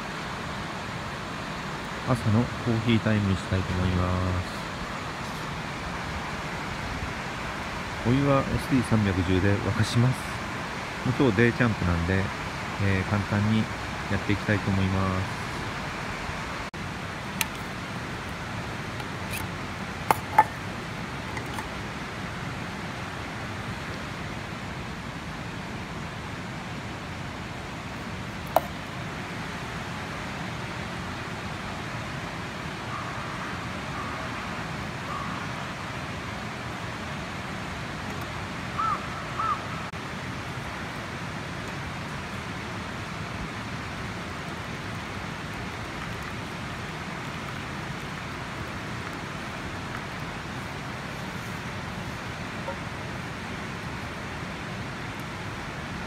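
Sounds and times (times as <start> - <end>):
steady outdoor rushing noise: 0.0 - 56.0.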